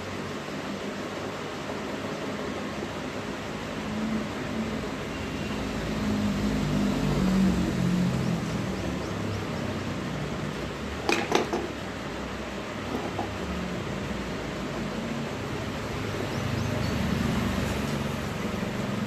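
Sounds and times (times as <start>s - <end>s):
background fan hum: 0.0s - 19.0s.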